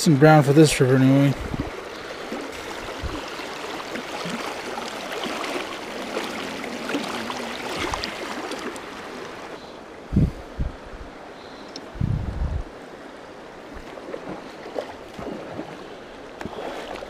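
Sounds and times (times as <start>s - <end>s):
shallow creek water splashing: 0.0s - 9.7s, 12.8s - 17.0s.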